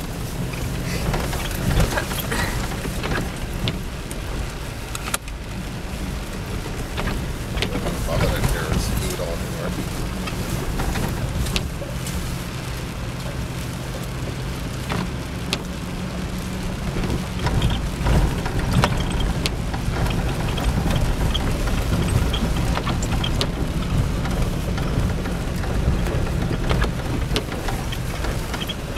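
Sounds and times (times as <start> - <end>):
rain on car body: 0.0 - 28.9
vehicle engine rumble: 0.0 - 28.9.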